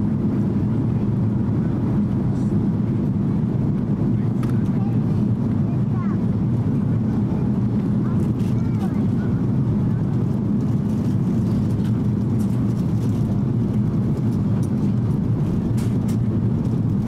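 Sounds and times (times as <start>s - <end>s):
airliner cabin engine drone: 0.0s - 17.0s.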